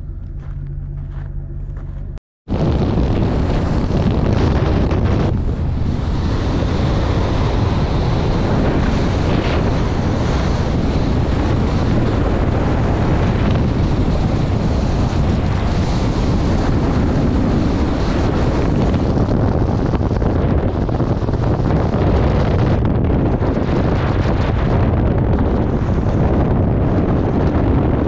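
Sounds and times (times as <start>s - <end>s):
car road noise: 0.0s - 28.0s
wind on microphone: 2.0s - 28.0s.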